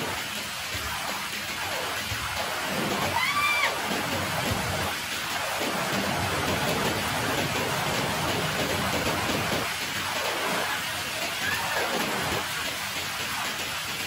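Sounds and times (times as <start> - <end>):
rain on concrete: 0.0 - 14.0.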